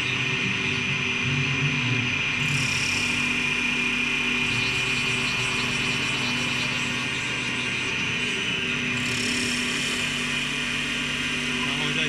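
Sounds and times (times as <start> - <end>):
wood lathe hum and whine: 0.0 - 12.0.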